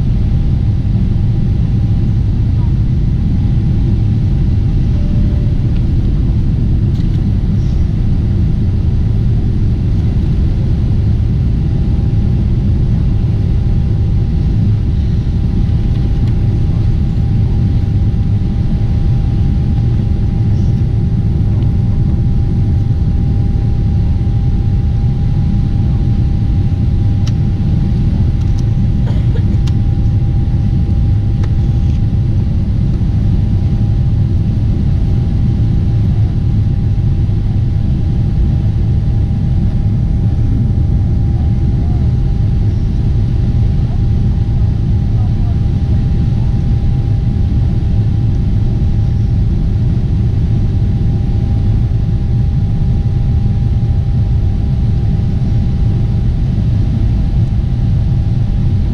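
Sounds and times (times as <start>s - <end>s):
airliner cabin low rumble: 0.0s - 58.9s
faint steady whine: 0.0s - 58.9s.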